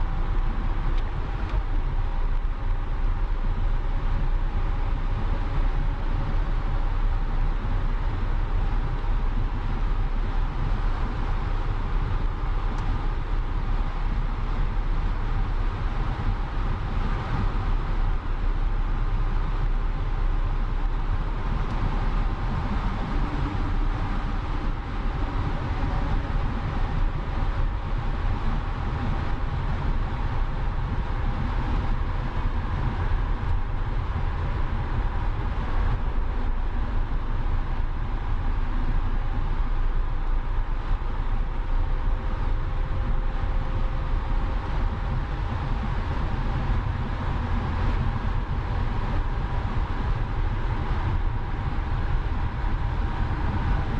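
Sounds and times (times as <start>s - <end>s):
car engine drone: 0.0s - 53.9s
wind and road noise: 0.0s - 53.9s.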